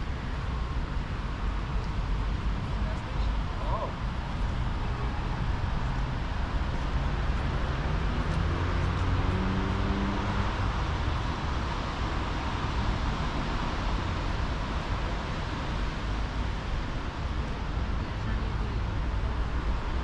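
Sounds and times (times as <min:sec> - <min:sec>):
faint engine hum: 0:00.0 - 0:20.0
road traffic rumble: 0:00.0 - 0:20.0.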